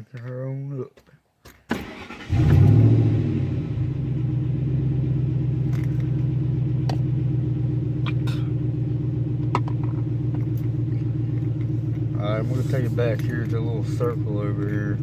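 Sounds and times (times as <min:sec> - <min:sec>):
pickup truck engine idling: 0:02.3 - 0:15.0.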